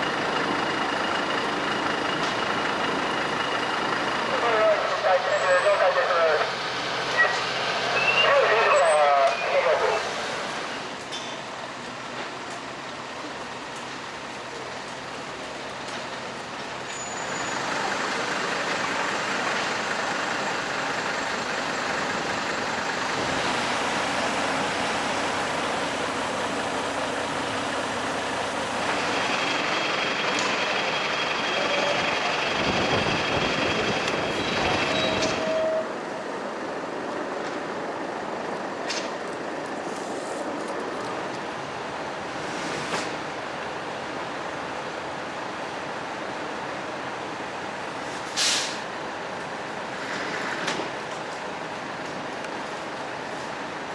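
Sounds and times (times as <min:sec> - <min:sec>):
fire engine engines running: 0:00.0 - 0:53.9.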